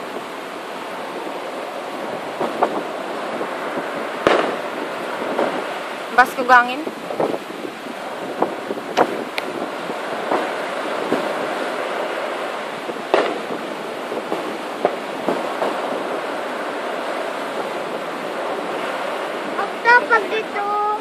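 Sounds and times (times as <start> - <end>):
surf rushing: 0.0 - 21.0
distant fireworks bangs and pops: 1.2 - 7.4, 8.0 - 20.2.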